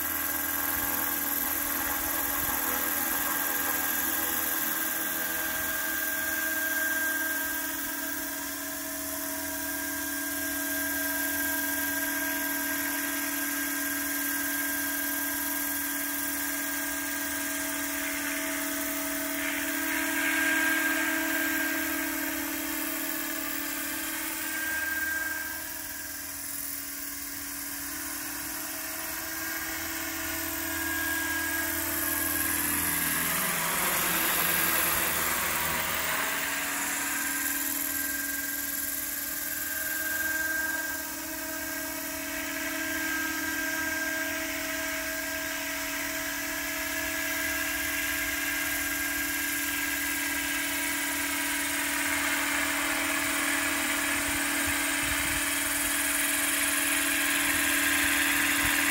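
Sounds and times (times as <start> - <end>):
model helicopter whine and rotor hum: 0.0 - 58.9.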